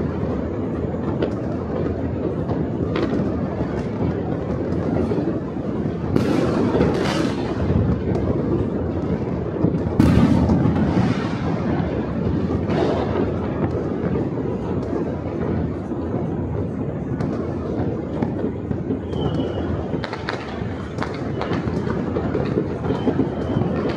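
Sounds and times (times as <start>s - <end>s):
distant fireworks rumble: 0.0s - 23.9s
firework bangs: 0.0s - 23.9s.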